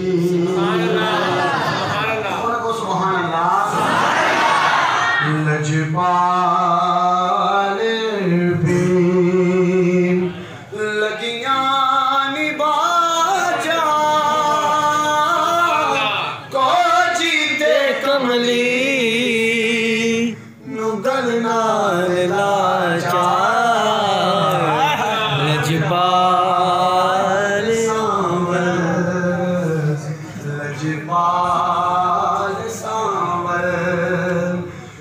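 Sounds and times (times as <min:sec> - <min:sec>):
man singing unaccompanied: 0:00.0 - 0:01.3, 0:05.2 - 0:35.0.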